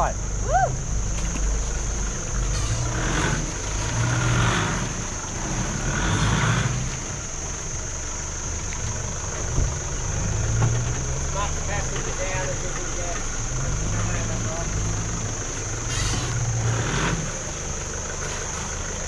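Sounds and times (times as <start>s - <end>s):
vehicle engine revving: 0.0s - 8.3s, 8.9s - 19.0s.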